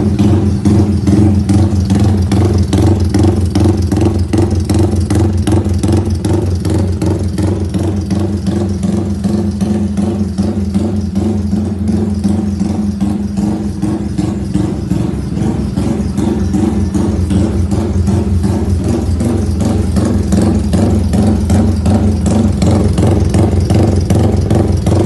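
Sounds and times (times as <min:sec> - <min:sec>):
moped engine idling loudly: 0:00.0 - 0:25.0.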